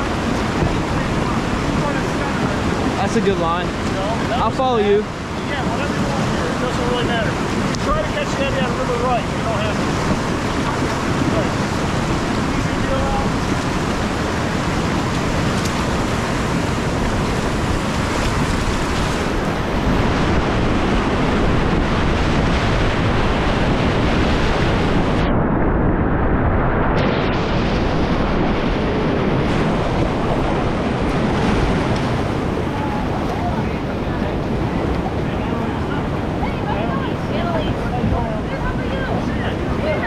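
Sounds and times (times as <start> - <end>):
whitewater rapids rushing: 0.0 - 25.2, 28.2 - 40.0.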